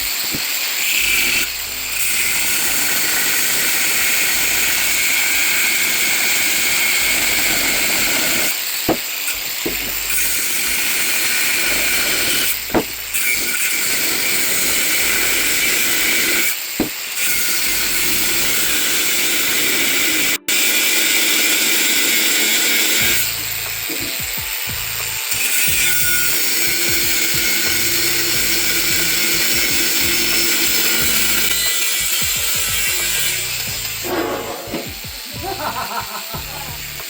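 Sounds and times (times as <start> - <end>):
electric grinder grinding metal: 0.0 - 37.0.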